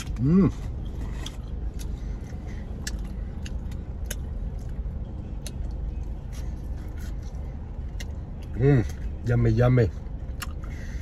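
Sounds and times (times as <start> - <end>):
chewing fries: 0.0 - 9.3, 9.9 - 11.0
car engine idling: 0.0 - 11.0.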